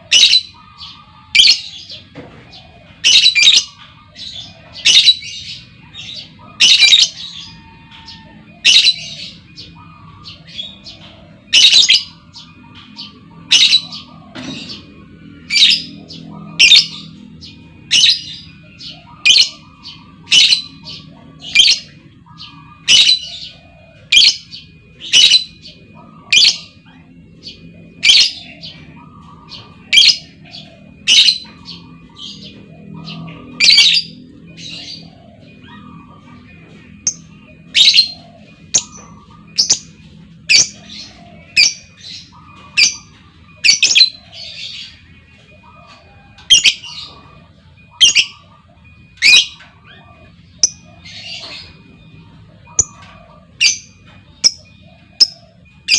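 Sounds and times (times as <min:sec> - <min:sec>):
lovebird calling: 0:02.9 - 0:55.9.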